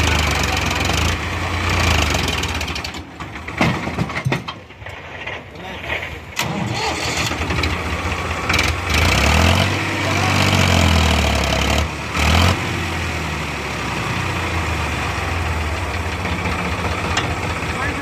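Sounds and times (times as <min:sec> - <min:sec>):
vehicle engine revving and idling: 0:00.0 - 0:03.1, 0:06.4 - 0:18.0.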